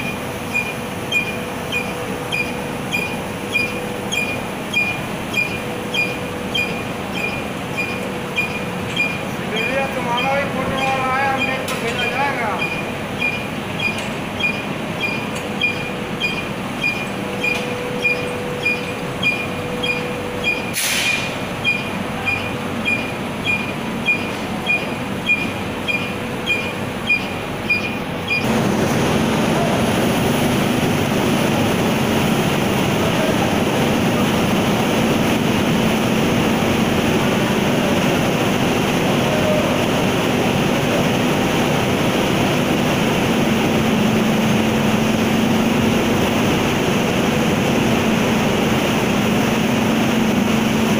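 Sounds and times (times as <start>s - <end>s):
belt conveyor motor running: 0.0s - 50.9s.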